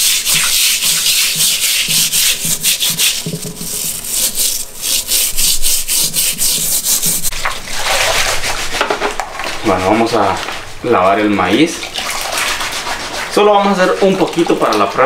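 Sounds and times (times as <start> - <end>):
scrubbing wet grinding stone: 0.0 - 10.4, 12.0 - 14.8.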